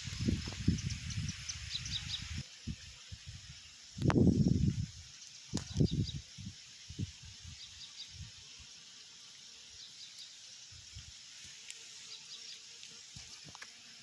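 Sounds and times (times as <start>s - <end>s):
running water hiss: 0.0s - 14.0s.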